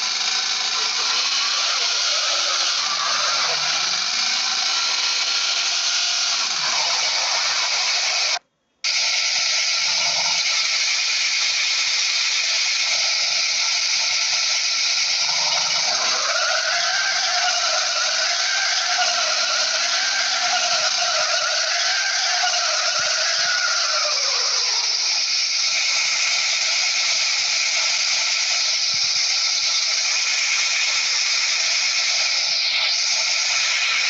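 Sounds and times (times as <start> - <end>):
small motor hissing: 0.0 - 34.0
wavering whine: 0.0 - 34.0.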